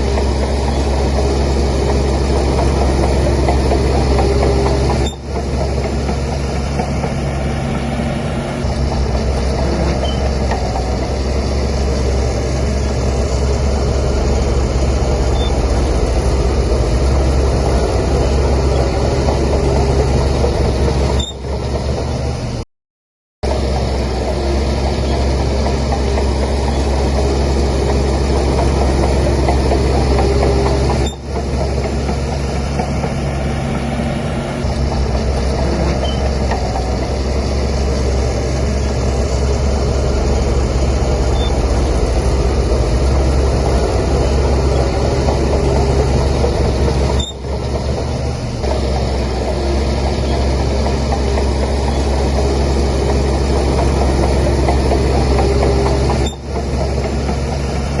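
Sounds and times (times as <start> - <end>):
bulldozer diesel engine droning: 0.0 - 22.6, 23.4 - 58.0.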